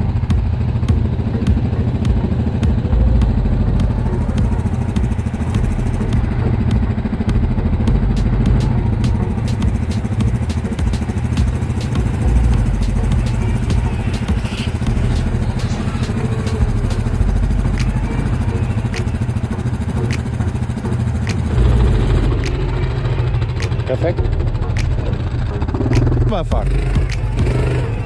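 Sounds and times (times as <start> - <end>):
sharp ticks and clatter: 0.0 - 27.8
quad bike engine running: 0.0 - 28.0.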